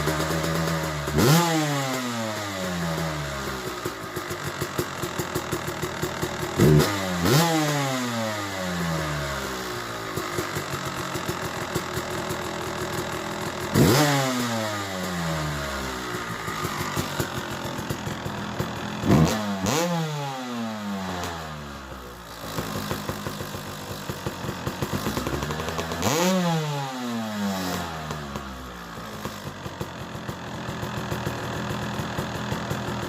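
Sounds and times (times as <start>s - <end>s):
two-stroke engine idling and revving: 0.0s - 33.0s.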